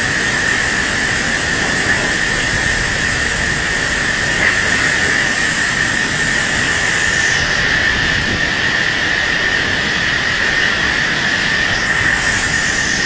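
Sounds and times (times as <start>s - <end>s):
driving rain: 0.0s - 13.0s
high wind whistle: 0.0s - 13.0s
strong wind blowing: 0.0s - 13.0s.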